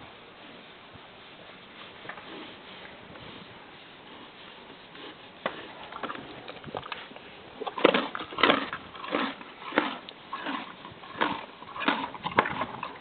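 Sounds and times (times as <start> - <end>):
horse chewing a carrot: 1.6 - 13.0.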